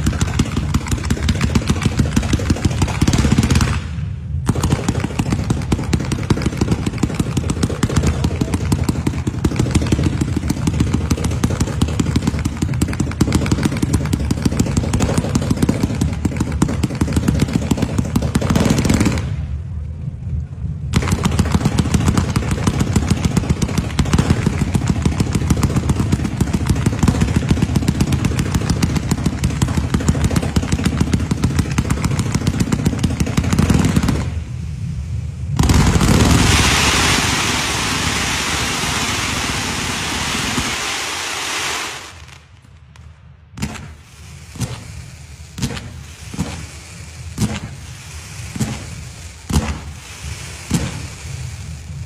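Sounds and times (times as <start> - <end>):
firework launch pops and bursts: 0.0 - 52.0.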